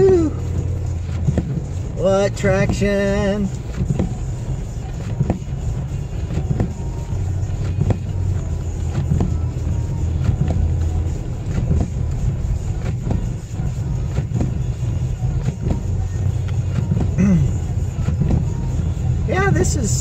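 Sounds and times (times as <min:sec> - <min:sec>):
engine and tyres drone: 0:00.0 - 0:20.0.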